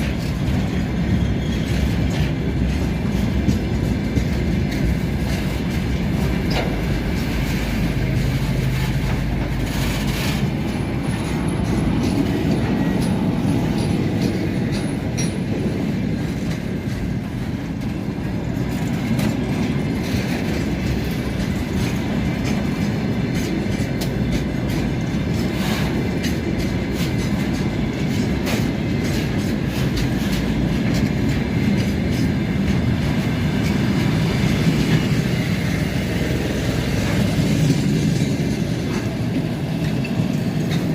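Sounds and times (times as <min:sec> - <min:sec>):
diesel locomotive engines under load: 0:00.0 - 0:40.9
wheels clicking over rail joints: 0:00.0 - 0:40.9.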